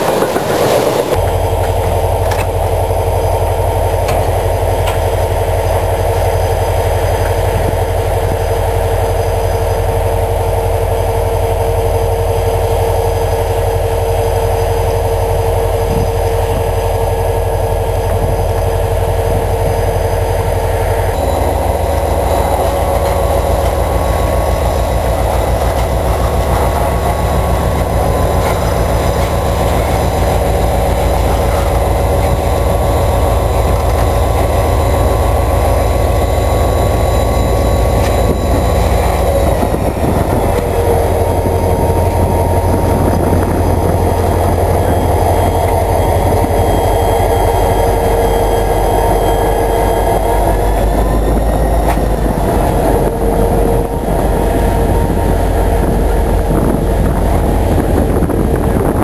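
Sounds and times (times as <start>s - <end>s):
diesel locomotive engine: 0.0s - 59.0s
train cars rumbling by: 0.0s - 59.0s
steady tone: 1.1s - 59.0s.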